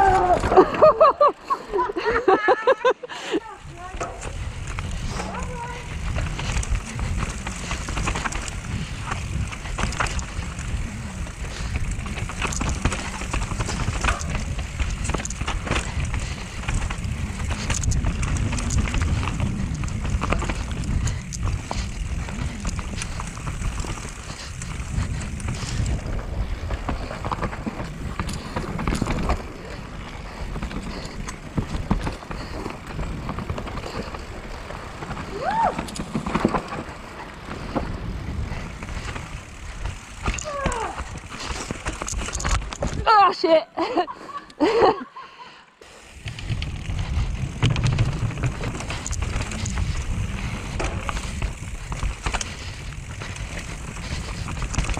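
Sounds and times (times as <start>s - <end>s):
wind and ground rumble: 0.0s - 45.0s, 45.8s - 54.9s
bike tyres rolling and rattling: 0.0s - 54.9s
bike knocking over roots: 3.7s - 43.2s, 46.2s - 54.9s.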